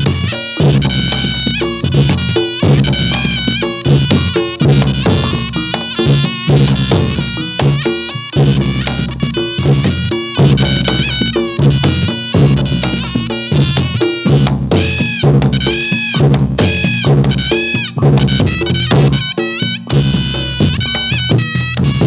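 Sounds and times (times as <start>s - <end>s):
drums and gongs rhythm: 0.0s - 22.0s
reed pipe melody: 0.0s - 22.0s.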